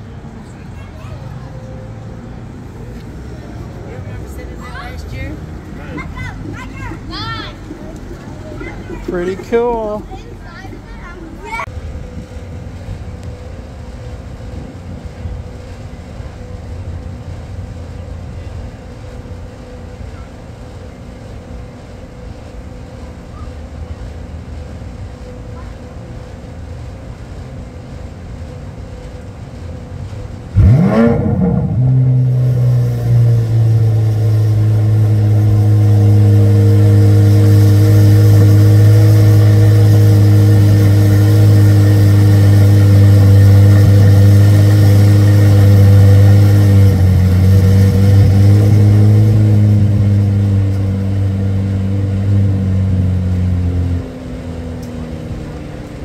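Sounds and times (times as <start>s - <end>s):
car engine starting and idling: 0.0s - 56.0s.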